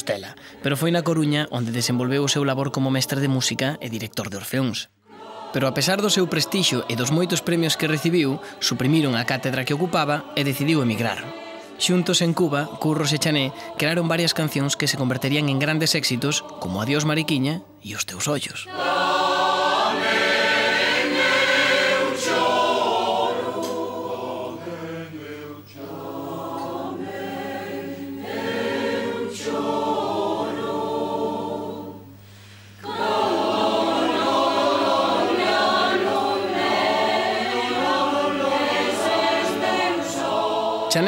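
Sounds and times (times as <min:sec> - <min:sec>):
mixed choir singing: 0:00.0 - 0:04.1, 0:05.0 - 0:17.6, 0:18.7 - 0:32.1, 0:32.8 - 0:41.0.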